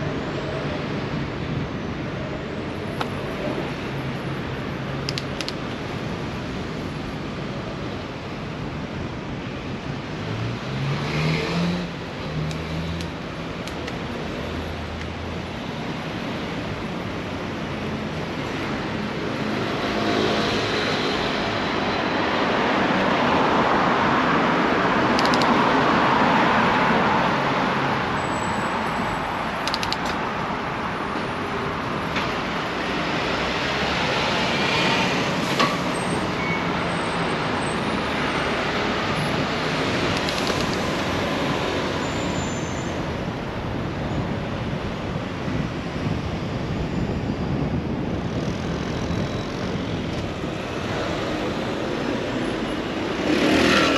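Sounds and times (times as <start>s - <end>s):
road traffic rushing: 0.0s - 53.9s.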